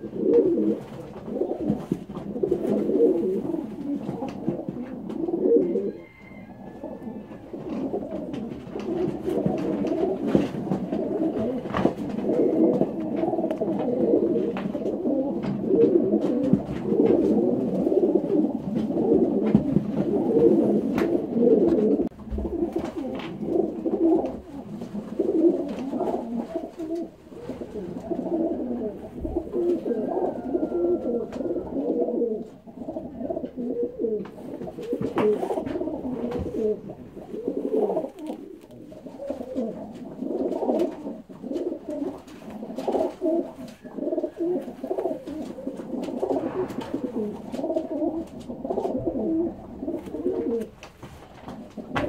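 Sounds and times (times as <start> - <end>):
pigeons cooing: 0.0 - 52.0.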